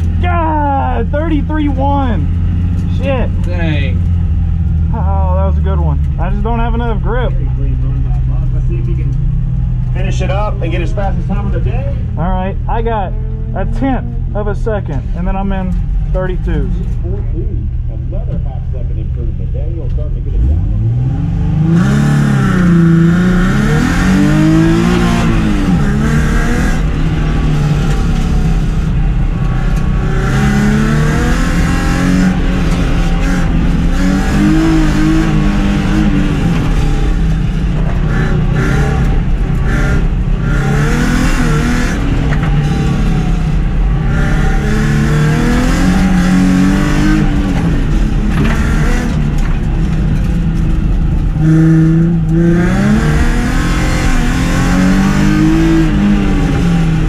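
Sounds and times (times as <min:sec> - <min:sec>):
car engine accelerating and shifting: 0:00.0 - 0:57.0
road noise rumble: 0:00.0 - 0:57.0.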